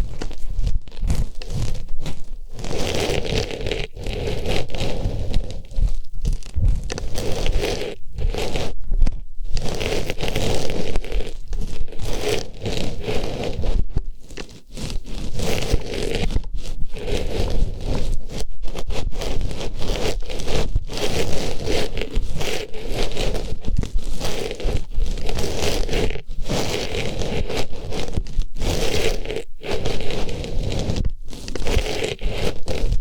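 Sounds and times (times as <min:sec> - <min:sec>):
scratchy rustling on microphone: 0:00.0 - 0:33.0.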